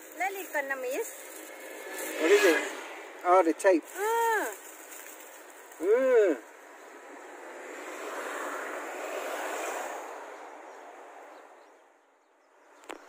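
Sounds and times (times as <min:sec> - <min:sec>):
vehicle passing by: 0:00.1 - 0:12.0.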